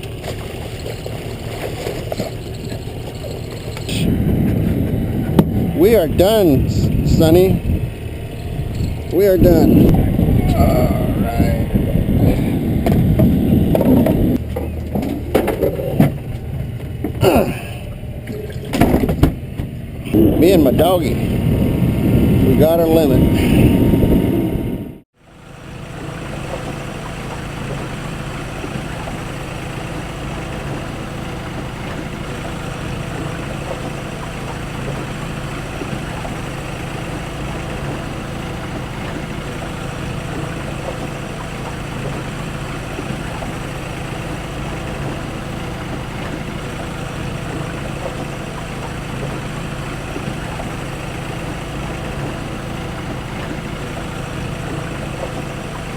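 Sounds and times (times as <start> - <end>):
boat engine droning: 0.0 - 55.9.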